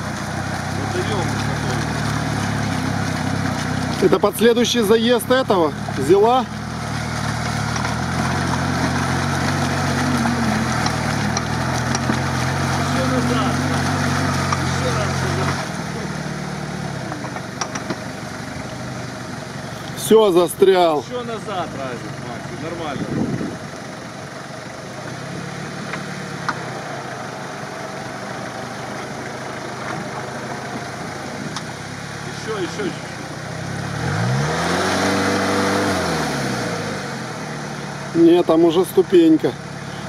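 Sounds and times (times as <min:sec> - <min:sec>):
truck engine running under load: 0:00.0 - 0:40.0.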